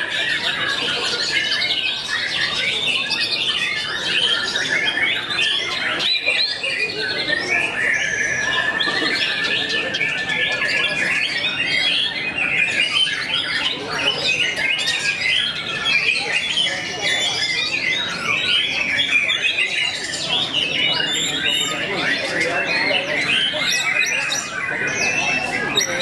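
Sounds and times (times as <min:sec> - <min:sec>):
birds singing in chorus: 0:00.0 - 0:26.0.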